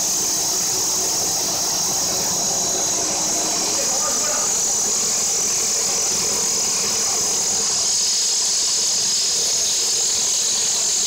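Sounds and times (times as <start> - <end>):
machinery running: 0.0 - 9.0
high-pitched hiss: 0.0 - 11.0.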